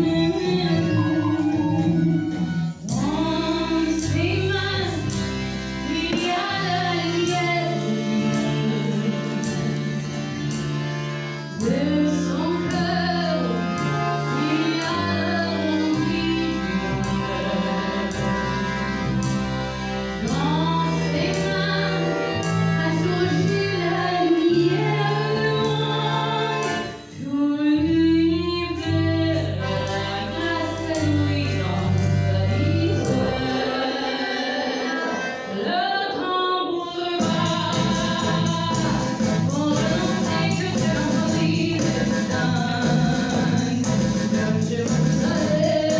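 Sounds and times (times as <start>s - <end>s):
woman singing into microphone: 0.0s - 10.0s, 11.6s - 19.0s, 20.2s - 45.9s
band with drums and piano: 0.0s - 27.0s, 28.9s - 34.5s, 37.2s - 45.9s.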